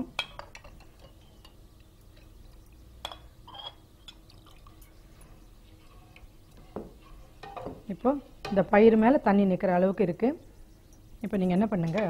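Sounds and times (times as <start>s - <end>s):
water dripping: 0.4s - 6.6s, 7.9s - 12.0s.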